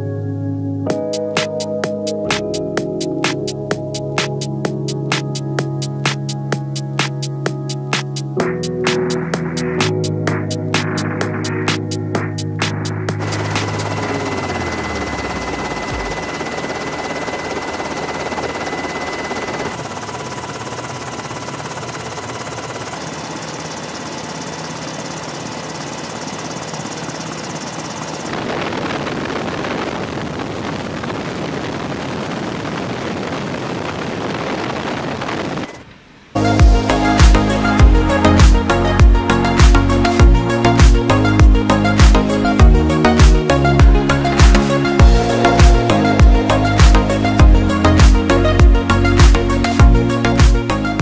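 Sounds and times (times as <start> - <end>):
steady rushing noise: 7.9 - 22.0, 22.7 - 51.0.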